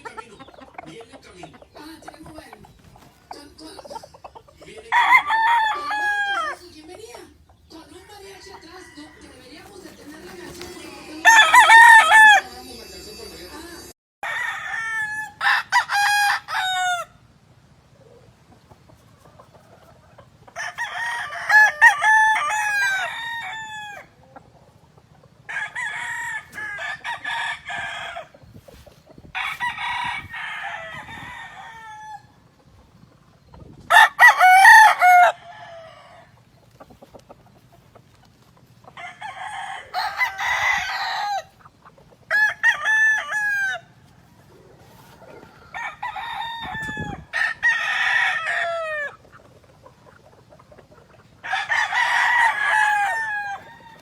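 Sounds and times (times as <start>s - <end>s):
roosters crowing: 4.4s - 13.2s, 14.2s - 18.4s, 19.0s - 37.8s, 38.5s - 54.0s.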